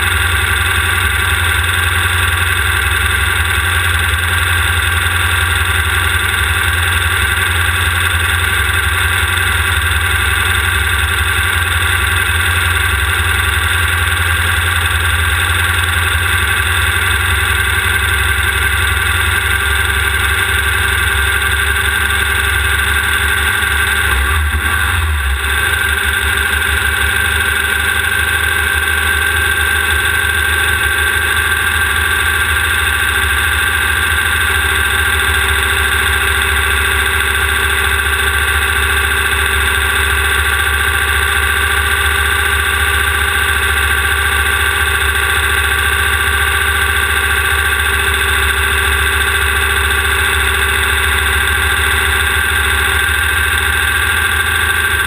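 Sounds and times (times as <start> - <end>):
buggy engine droning: 0.0 - 55.0.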